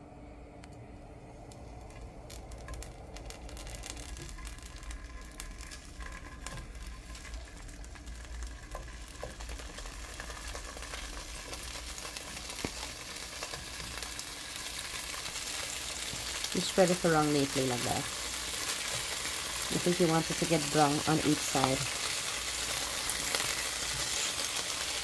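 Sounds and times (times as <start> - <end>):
cheese sizzling in hot oil: 1.6 - 25.0.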